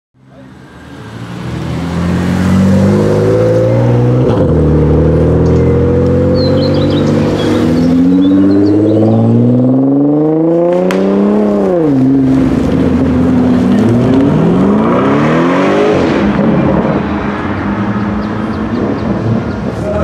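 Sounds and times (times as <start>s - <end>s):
cars accelerating hard: 0.3s - 20.0s.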